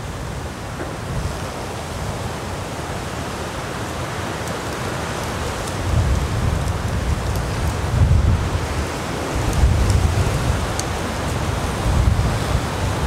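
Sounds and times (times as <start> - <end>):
gusty wind buffeting microphone: 0.0 - 3.2, 5.6 - 13.0.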